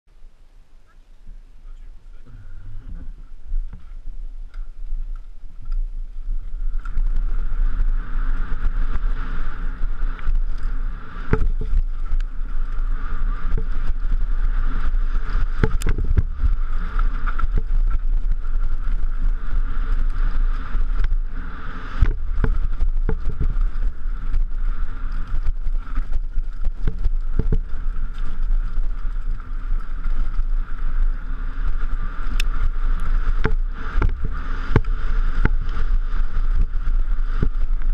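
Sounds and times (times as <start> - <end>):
wind rumble: 0.1 - 37.9
tyres on gravel: 0.8 - 37.9
bike knocking and rattling: 2.8 - 37.9.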